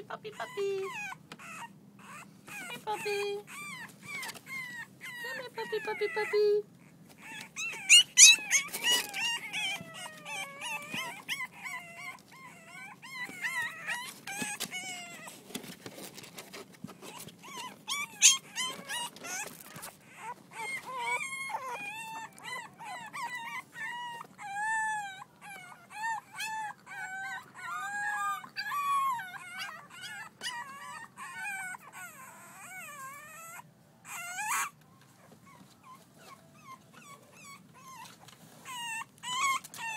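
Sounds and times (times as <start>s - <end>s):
puppies whimpering and whining: 0.0s - 39.9s.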